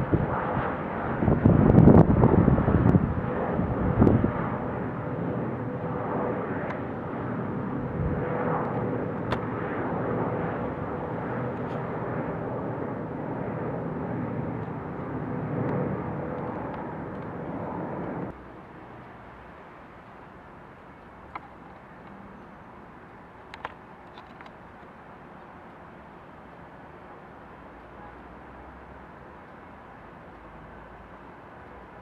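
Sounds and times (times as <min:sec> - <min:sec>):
jet engine rush with whine: 0:00.0 - 0:32.0.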